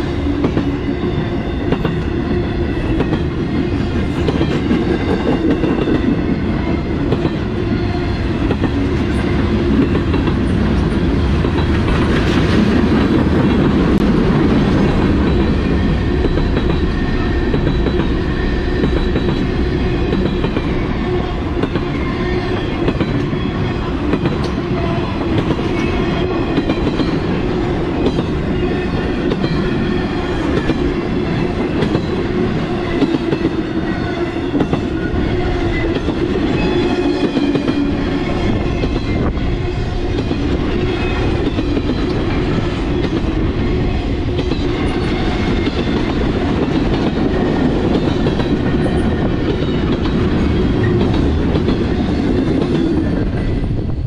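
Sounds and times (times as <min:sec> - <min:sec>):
freight train rumbling past: 0:00.0 - 0:54.0
train wheels clacking on rail joints: 0:00.2 - 0:06.3, 0:06.9 - 0:20.9, 0:21.5 - 0:43.4, 0:44.2 - 0:53.5.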